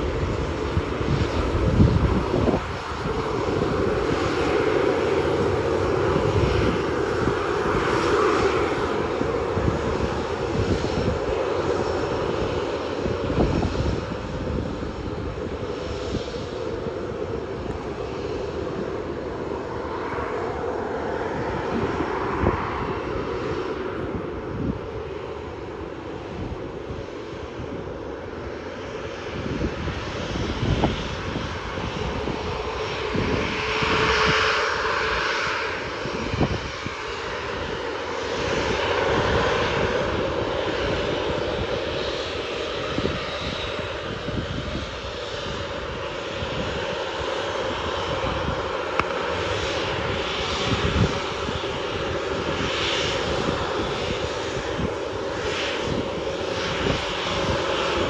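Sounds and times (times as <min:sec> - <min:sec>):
jet engines taxiing: 0:00.0 - 0:58.0.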